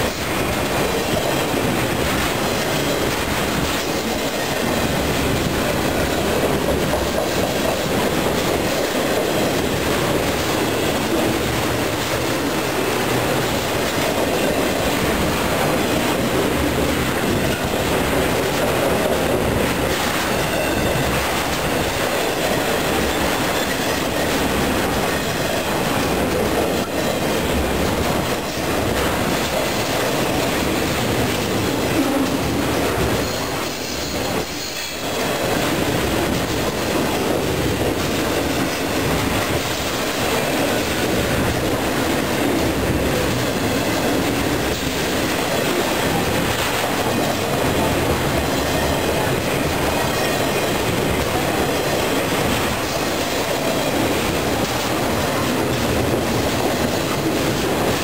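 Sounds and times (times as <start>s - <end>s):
freight train wheels rumbling: 0.0s - 58.0s
train wheels clicking: 0.0s - 58.0s.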